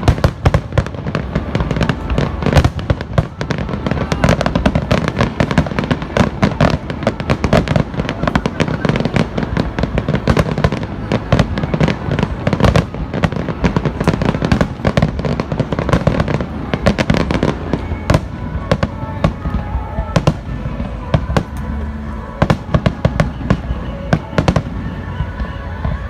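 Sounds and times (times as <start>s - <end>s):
fireworks bursting: 0.0s - 26.0s
music playing: 0.0s - 26.0s.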